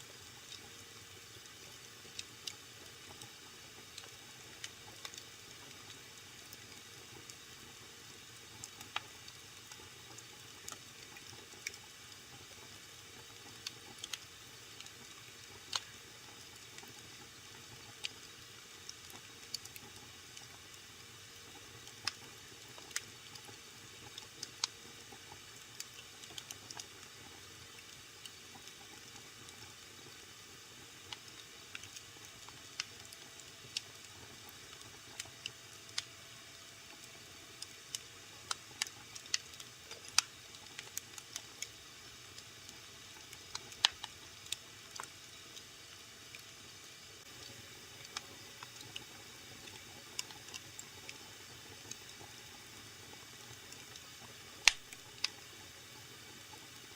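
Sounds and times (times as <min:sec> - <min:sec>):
wood fire crackling and popping: 0:01.4 - 0:07.8, 0:08.4 - 0:20.8, 0:21.4 - 0:36.1, 0:36.9 - 0:45.4, 0:47.2 - 0:56.9.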